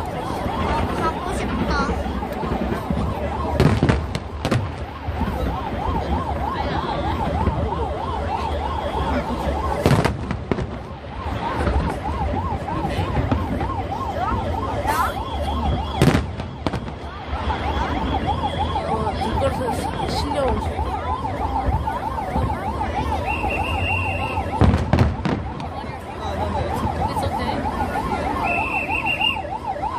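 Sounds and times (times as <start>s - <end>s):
fireworks bangs: 0.0s - 20.8s, 21.6s - 27.3s
emergency siren yelping: 0.0s - 29.9s
large crowd noise: 0.0s - 29.9s.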